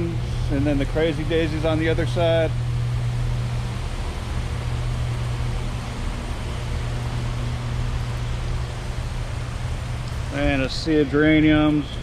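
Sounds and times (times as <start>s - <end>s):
ventilation fans running: 0.0s - 12.0s.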